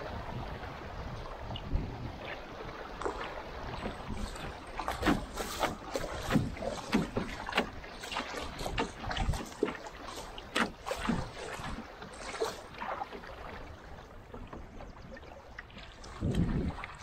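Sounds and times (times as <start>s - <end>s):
water slapping canoe bow: 0.0s - 17.0s.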